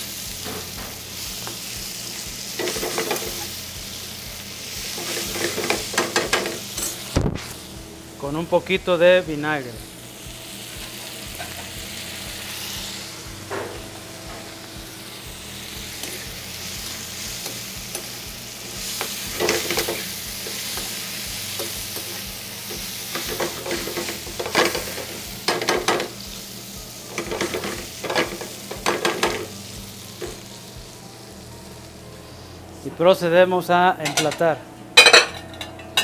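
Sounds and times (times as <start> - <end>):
meat sizzling in a frying pan: 0.0 - 32.6.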